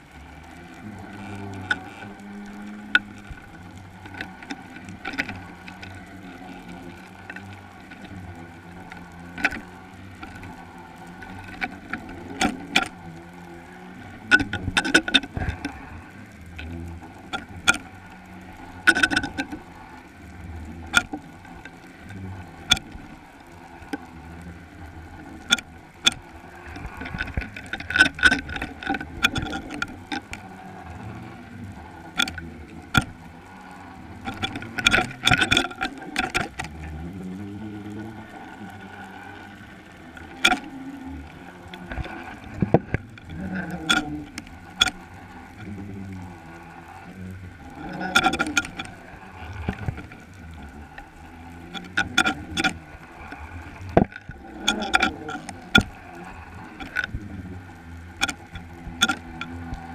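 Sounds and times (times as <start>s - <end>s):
underwater clicks and knocks: 0.0s - 59.9s
wavering low tones: 0.0s - 59.9s.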